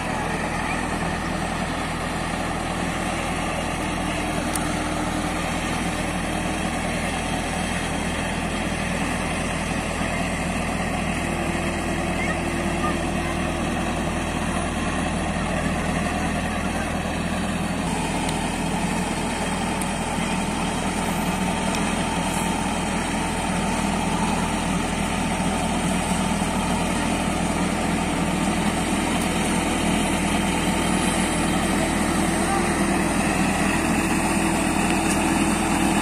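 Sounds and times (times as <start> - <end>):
heavy machine engine running: 0.0 - 36.0.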